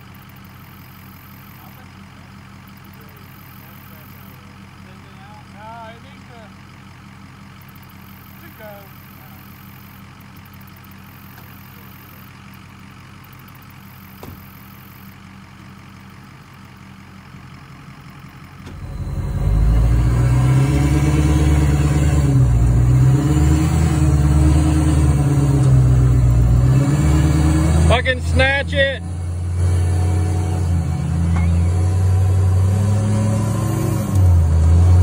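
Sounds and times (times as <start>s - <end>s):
pickup truck engine running: 0.0s - 35.0s.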